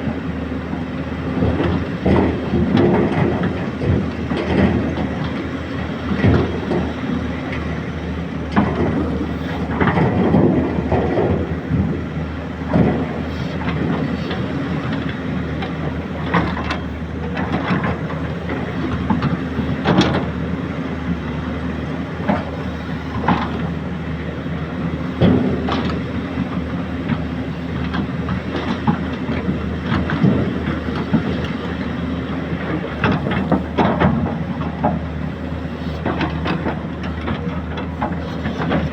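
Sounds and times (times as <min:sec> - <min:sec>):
excavator engine running: 0:00.0 - 0:38.9
machine clanks and knocks: 0:00.7 - 0:38.9.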